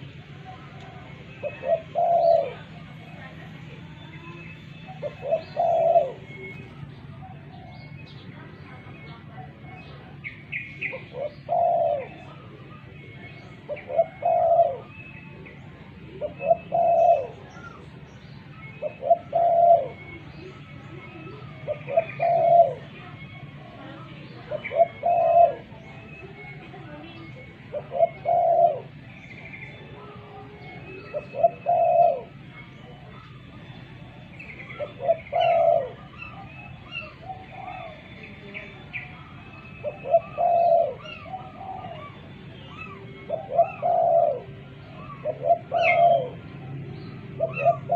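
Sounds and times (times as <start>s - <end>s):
dove cooing: 0.0s - 47.9s
small birds chirping: 0.0s - 47.9s.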